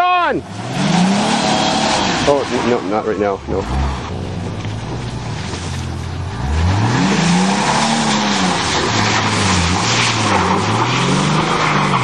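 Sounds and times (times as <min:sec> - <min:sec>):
car engine revving hard: 0:00.4 - 0:12.0.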